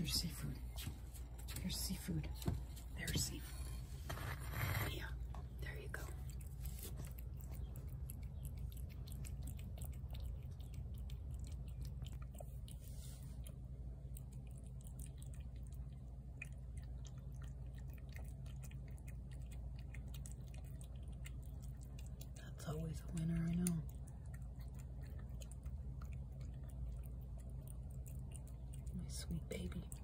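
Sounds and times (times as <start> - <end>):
steady low hum: 0.0 - 30.0
cat chewing wet food: 5.2 - 30.0.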